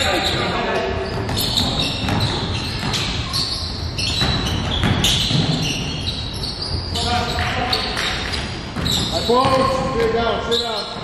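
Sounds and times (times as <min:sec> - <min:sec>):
basketball bouncing on wooden court: 0:00.0 - 0:11.0
sneakers squeaking on floor: 0:00.0 - 0:11.0.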